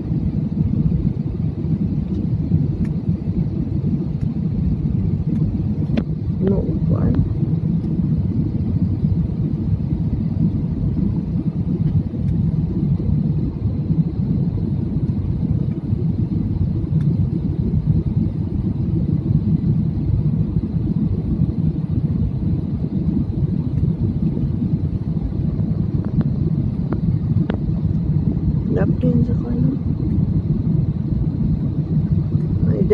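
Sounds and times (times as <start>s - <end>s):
airliner engines and rushing air: 0.0s - 32.9s.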